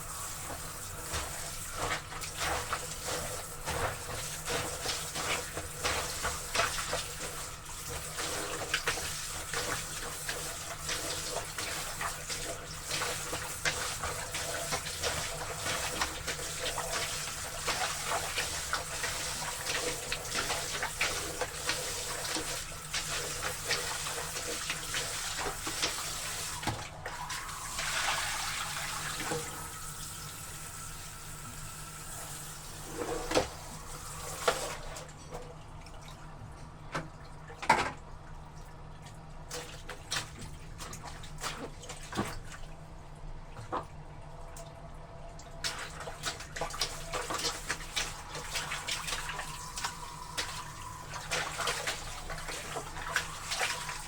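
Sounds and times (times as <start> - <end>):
laundry splashing in water: 0.0 - 30.3, 38.5 - 54.0.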